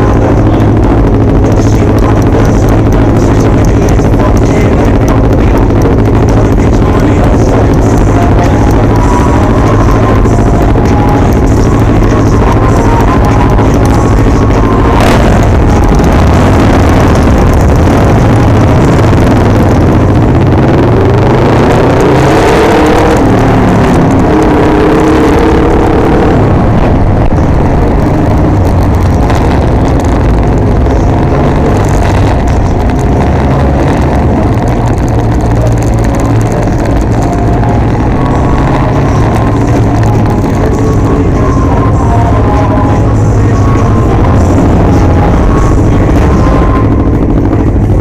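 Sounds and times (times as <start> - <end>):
engine accelerating: 0.0 - 48.0
engines droning on the move: 0.0 - 48.0.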